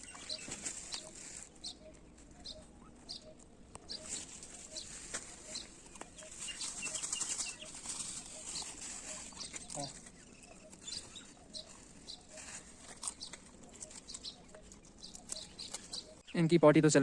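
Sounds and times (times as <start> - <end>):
higher bird chirps: 0.0 - 16.6.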